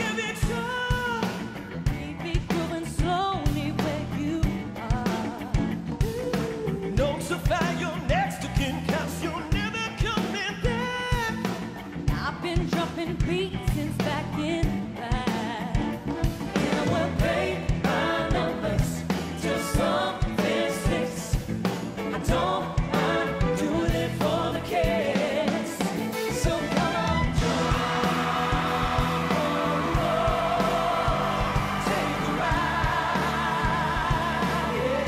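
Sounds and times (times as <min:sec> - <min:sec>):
live pop-rock song: 0:00.0 - 0:35.0
steady drum beat: 0:00.0 - 0:35.0.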